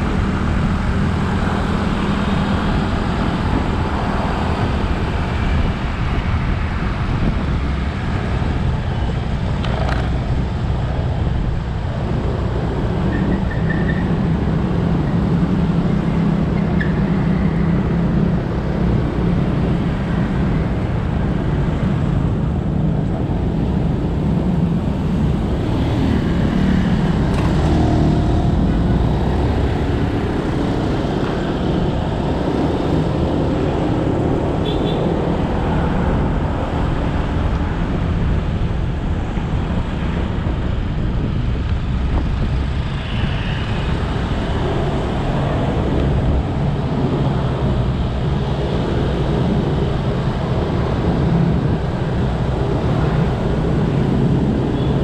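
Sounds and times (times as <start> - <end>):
road and tyre noise: 0.0 - 55.0
surrounding traffic: 0.0 - 55.0.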